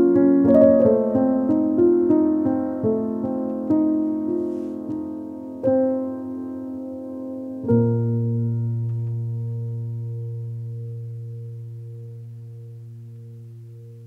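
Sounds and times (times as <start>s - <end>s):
slow solo piano music: 0.0s - 14.0s.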